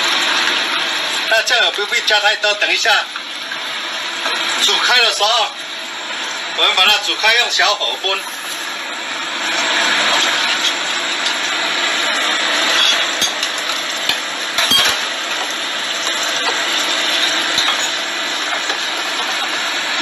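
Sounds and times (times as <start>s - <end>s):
sauce bubbling in a frying pan: 0.0s - 20.0s.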